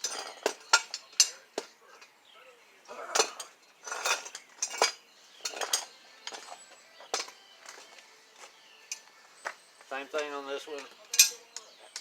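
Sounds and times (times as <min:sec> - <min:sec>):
metal tools clinking and scraping: 0:00.0 - 0:02.2, 0:02.9 - 0:09.1, 0:10.0 - 0:12.0.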